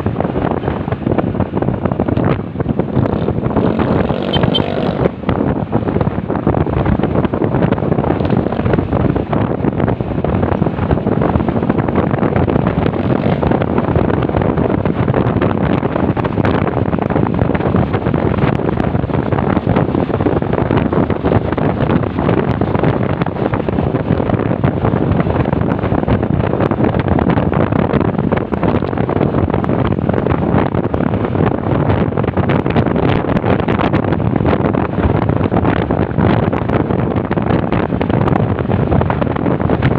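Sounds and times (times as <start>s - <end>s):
motorcycle road and engine noise: 0.0s - 39.9s
wind rushing over microphone: 0.0s - 39.9s.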